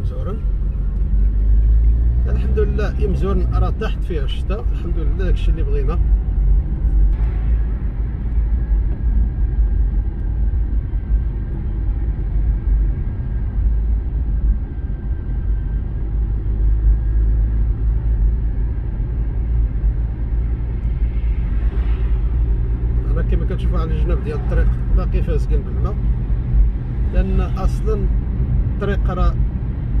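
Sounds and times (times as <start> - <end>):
car interior road rumble: 0.0 - 30.0.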